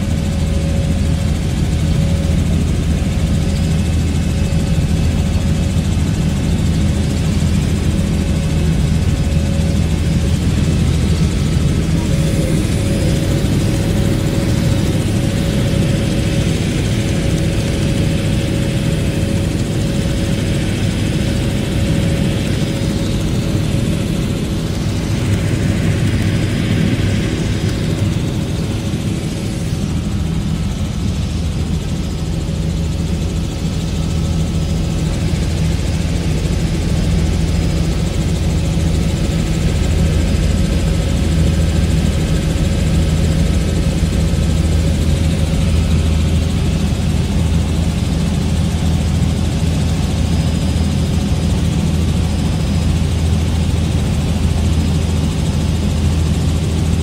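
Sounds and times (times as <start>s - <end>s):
helicopter engine and rotor hum: 0.0s - 57.0s.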